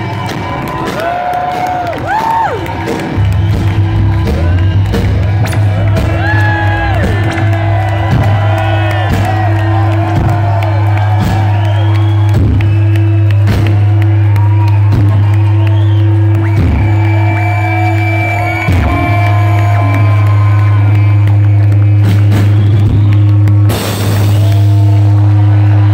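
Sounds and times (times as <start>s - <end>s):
crowd whooping and cheering: 0.0s - 25.9s
live rock band drone: 0.0s - 25.9s.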